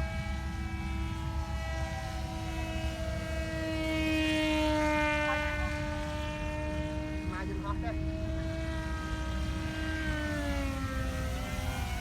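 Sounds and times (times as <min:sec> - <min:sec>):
model airplane motor whine: 0:00.0 - 0:12.0.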